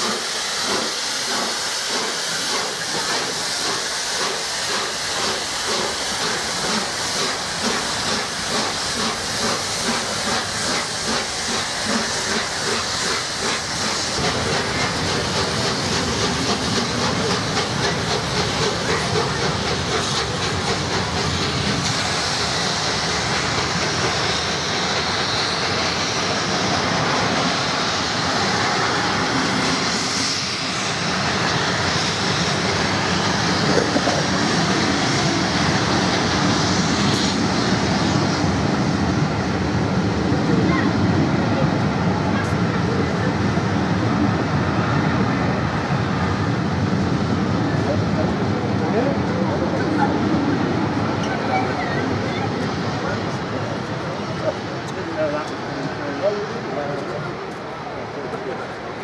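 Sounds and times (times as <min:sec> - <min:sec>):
steam hissing: 0:00.0 - 0:59.0
steam locomotive exhaust beat: 0:00.0 - 0:59.0
train rumbling on rails: 0:00.0 - 0:59.0.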